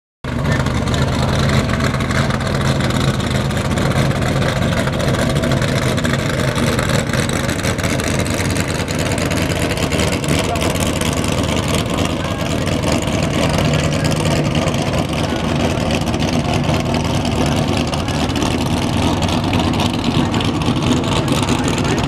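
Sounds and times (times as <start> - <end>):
engine idling: 0.2 - 22.0.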